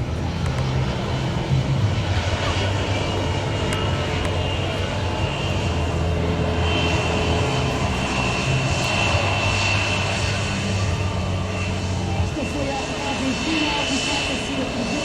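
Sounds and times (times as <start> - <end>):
military aircraft engines droning: 0.0 - 15.0.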